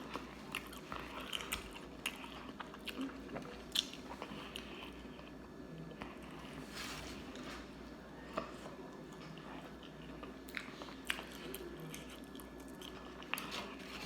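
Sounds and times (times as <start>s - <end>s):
person chewing food: 0.0s - 7.4s, 8.2s - 14.0s.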